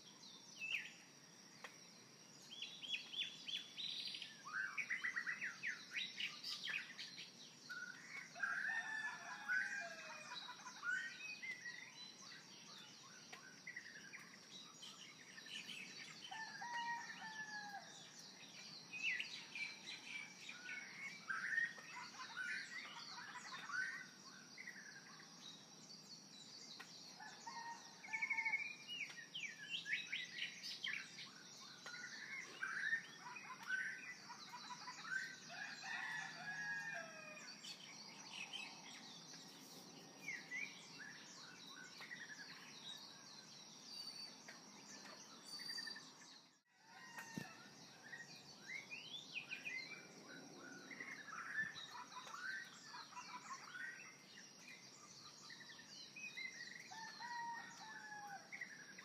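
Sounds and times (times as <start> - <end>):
steady high-pitched hiss: 0.0 - 8.9, 9.5 - 57.1
birds chirping and singing: 0.0 - 59.0.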